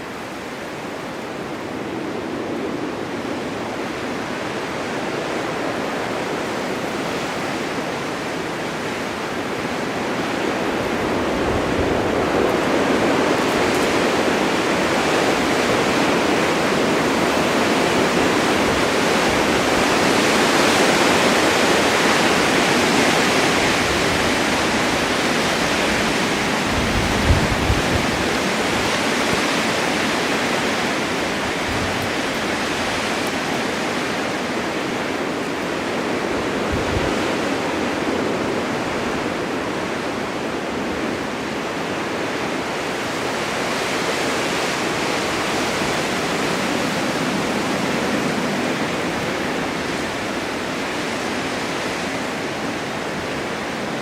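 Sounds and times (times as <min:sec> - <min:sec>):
blizzard wind blowing: 0:00.0 - 0:54.0
wind gusts buffeting microphone: 0:00.0 - 0:54.0.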